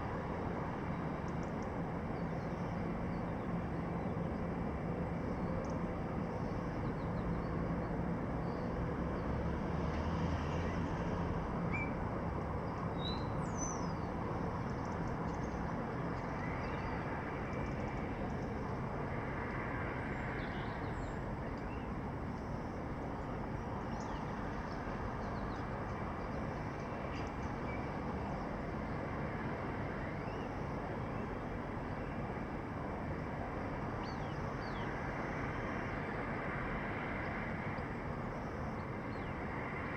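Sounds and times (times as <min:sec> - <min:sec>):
city background noise: 0:00.0 - 0:39.9.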